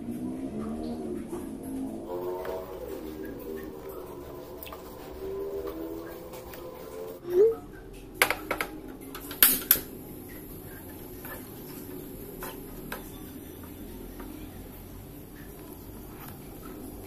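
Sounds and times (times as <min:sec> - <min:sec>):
low steady background: 0:00.0 - 0:17.0.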